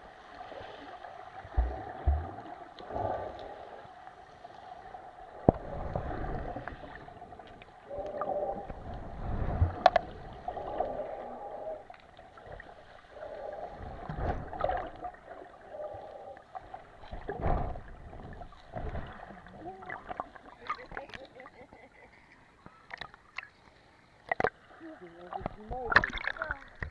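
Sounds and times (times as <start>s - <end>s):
sea water washing and sloshing: 0.0s - 21.4s, 24.2s - 26.9s.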